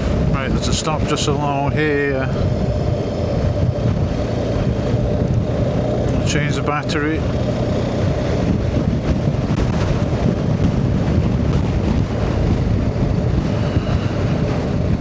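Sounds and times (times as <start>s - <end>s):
motorcycle engine drone: 0.0s - 15.0s
wind rushing over microphone: 0.0s - 15.0s.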